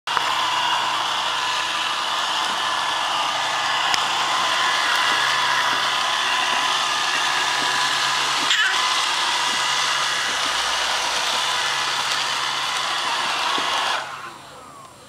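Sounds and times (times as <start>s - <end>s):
robot vacuum whirring: 0.1s - 15.0s.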